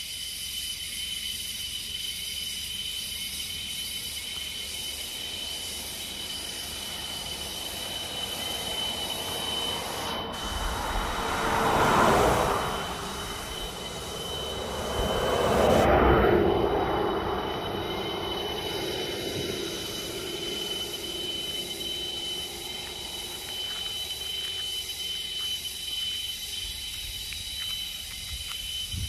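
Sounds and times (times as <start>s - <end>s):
vehicles passing on a highway: 2.4s - 29.0s.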